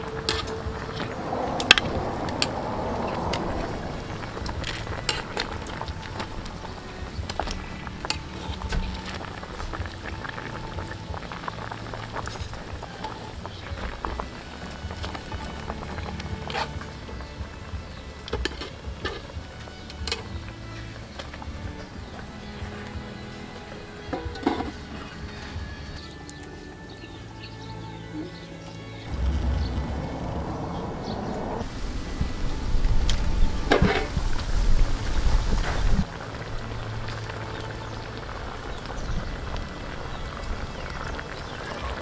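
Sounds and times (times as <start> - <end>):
faint background music: 0.0 - 42.0.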